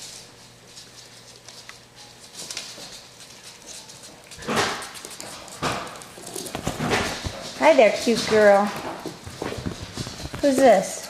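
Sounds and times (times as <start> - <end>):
puppies scuffling: 0.0 - 11.0.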